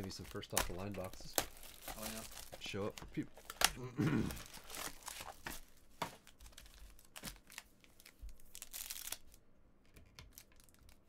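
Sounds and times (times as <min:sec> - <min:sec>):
foil wrapper crinkling: 0:00.0 - 0:03.8, 0:04.4 - 0:09.4, 0:10.3 - 0:11.0.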